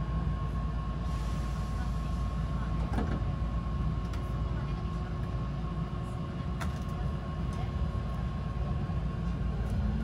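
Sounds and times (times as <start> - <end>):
train carriage rumble: 0.0 - 10.0.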